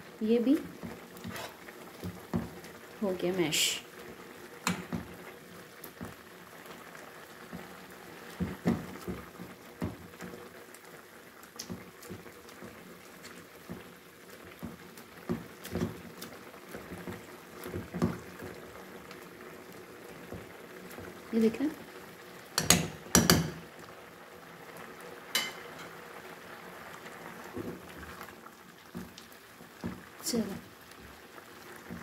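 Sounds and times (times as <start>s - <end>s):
sauce simmering and bubbling: 0.0s - 32.0s.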